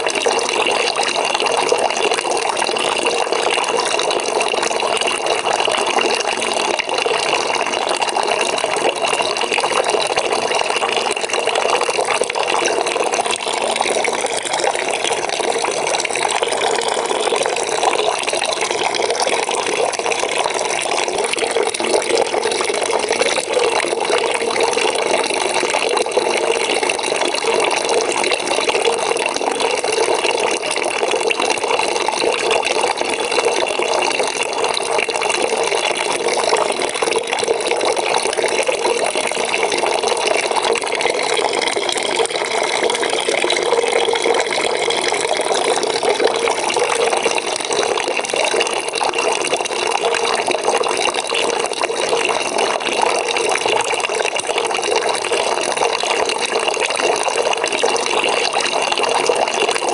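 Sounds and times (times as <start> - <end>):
water pouring into a bucket: 0.0 - 59.9.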